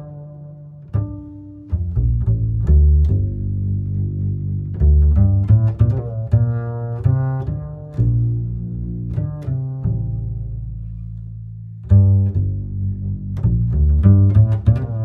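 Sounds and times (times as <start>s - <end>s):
plucked bass line: 0.0s - 15.0s.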